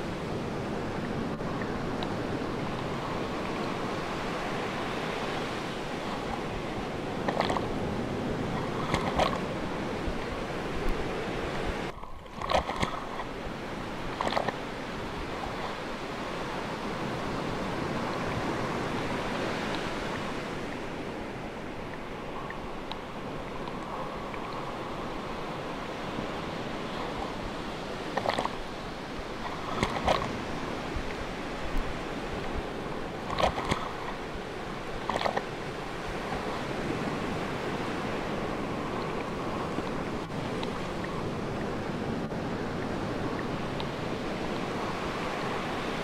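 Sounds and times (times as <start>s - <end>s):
sea waves washing: 0.0s - 46.0s
wave splashes: 0.0s - 46.0s.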